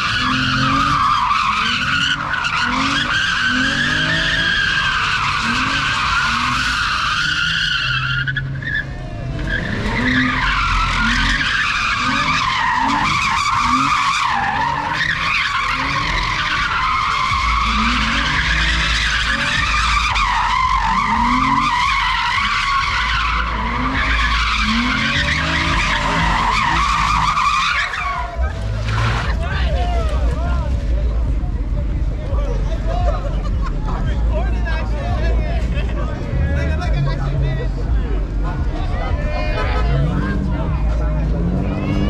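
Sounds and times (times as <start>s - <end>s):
car engine revving: 0.0s - 42.0s
car tyres squealing: 0.0s - 42.0s.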